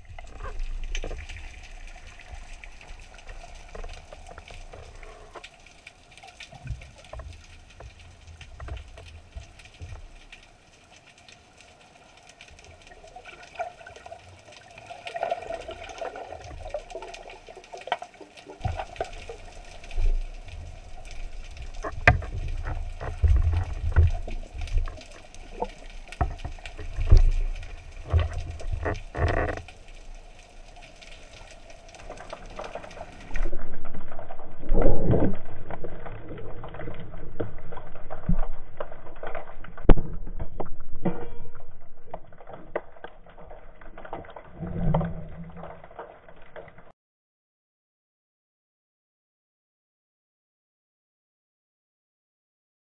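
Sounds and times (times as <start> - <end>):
dull underwater wash: 0.0 - 47.0
water sloshing and bubbling: 0.0 - 47.0.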